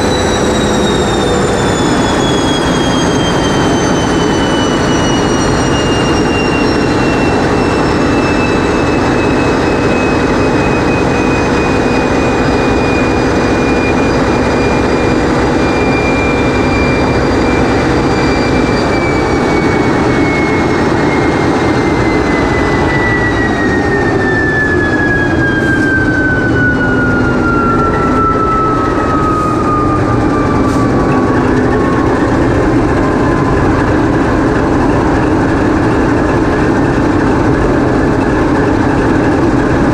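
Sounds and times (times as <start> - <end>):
diesel engine running: 0.0 - 39.9
high whine falling in pitch: 0.0 - 39.9.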